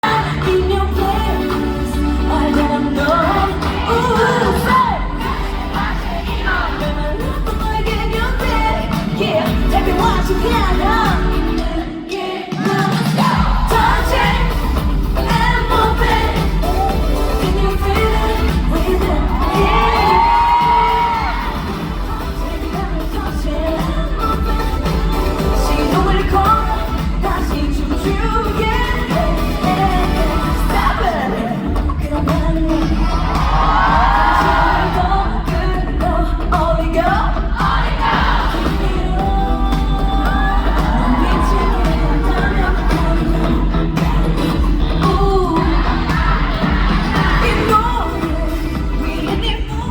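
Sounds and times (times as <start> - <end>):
backing track with bass and beat: 0.0 - 11.9, 12.6 - 49.9
woman singing pop song: 0.0 - 49.9.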